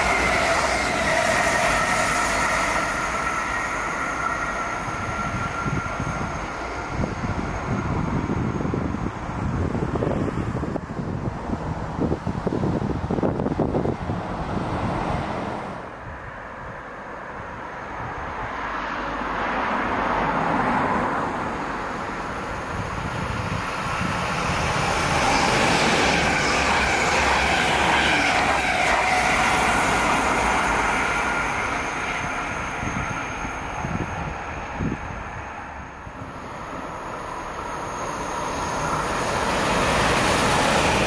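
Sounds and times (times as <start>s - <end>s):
train wheels rushing past: 0.0s - 16.8s, 17.7s - 41.0s.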